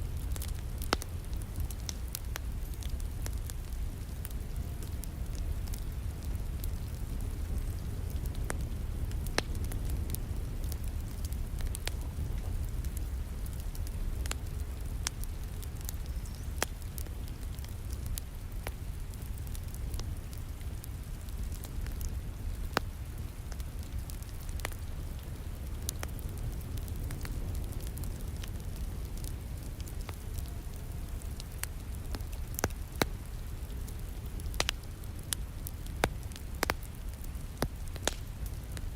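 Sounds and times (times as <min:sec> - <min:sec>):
low rumble of fire: 0:00.0 - 0:38.9
wood fire crackling: 0:00.0 - 0:38.9.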